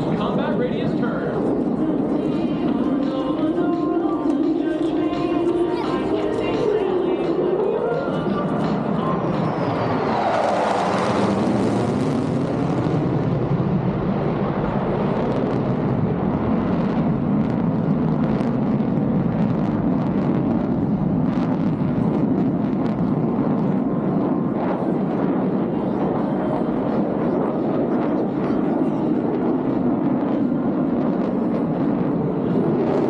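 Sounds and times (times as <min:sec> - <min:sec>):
jet engine roaring: 0:00.0 - 0:33.0.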